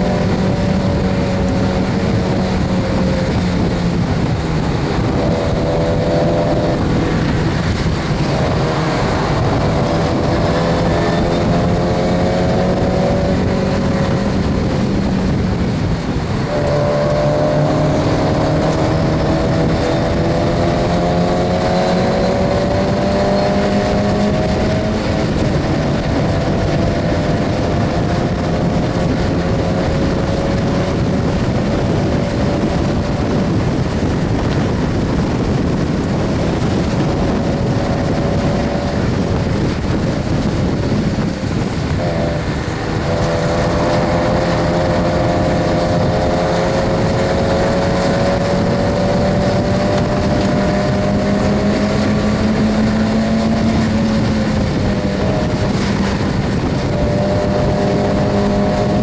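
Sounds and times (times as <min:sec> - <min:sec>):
car engine pulling hard: 0:00.0 - 0:59.0
wind and road noise: 0:00.0 - 0:59.0.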